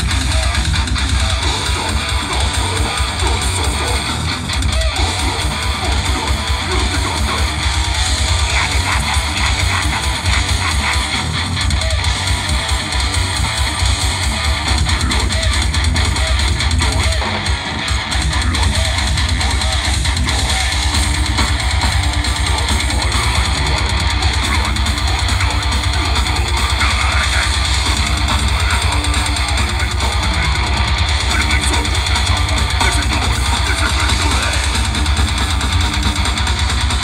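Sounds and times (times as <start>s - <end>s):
bass guitar: 0.0s - 37.0s
distorted electric guitar: 0.0s - 37.0s
fast drumming: 0.0s - 37.0s.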